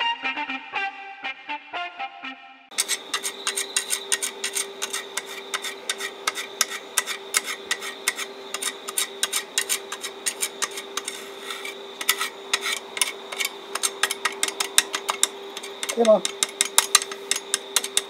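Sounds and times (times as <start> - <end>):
steady hum: 2.7 - 18.0
welding rod scratching on steel: 2.7 - 18.0.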